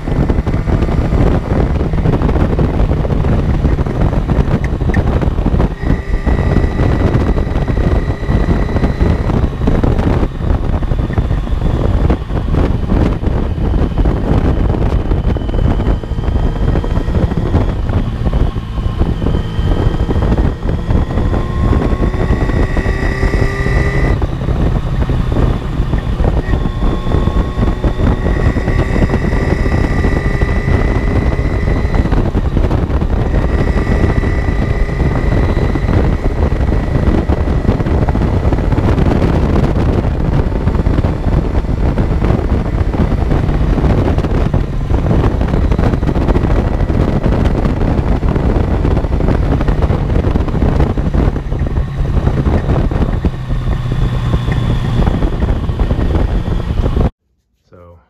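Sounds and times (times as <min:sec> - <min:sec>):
motorcycle engine accelerating: 0:00.0 - 0:57.2
wind buffeting microphone: 0:00.0 - 0:57.2.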